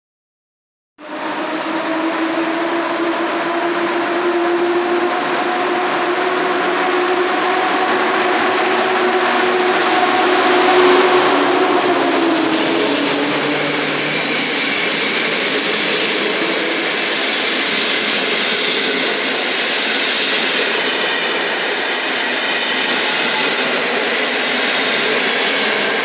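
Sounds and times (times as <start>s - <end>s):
train wheels rushing on rail: 1.0s - 26.0s.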